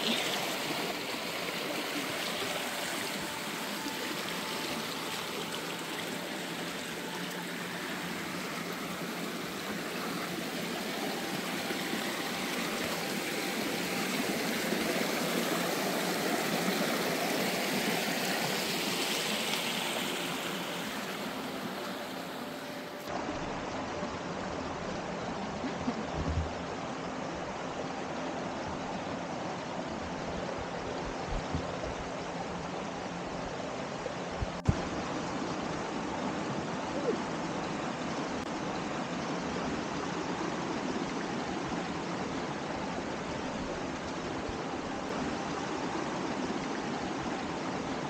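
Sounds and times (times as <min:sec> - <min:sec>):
creek water flowing: 0:00.0 - 0:48.0.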